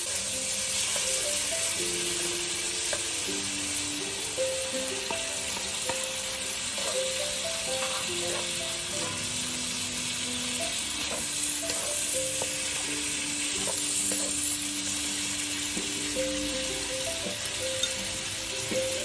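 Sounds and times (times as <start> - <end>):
food sizzling in a wok: 0.0 - 19.0
soft background music: 0.0 - 19.0.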